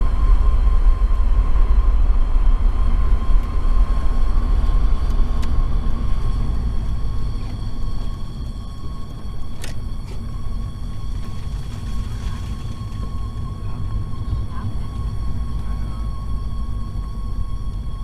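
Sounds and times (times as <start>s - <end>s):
driveline whine: 0.0s - 18.0s
road and drivetrain rumble: 0.0s - 18.0s.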